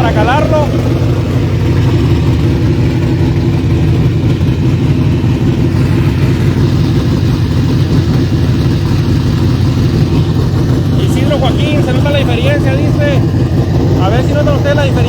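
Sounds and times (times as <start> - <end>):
engine idling deeply: 0.0 - 15.0.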